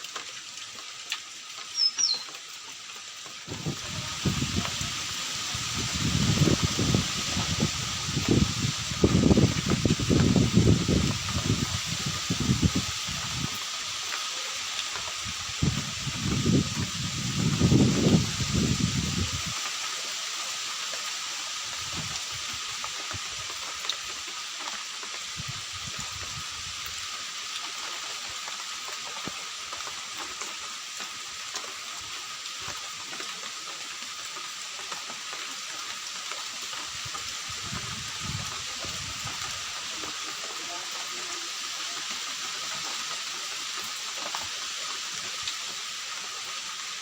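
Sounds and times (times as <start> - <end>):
water hissing: 3.4 - 33.0, 34.0 - 47.0.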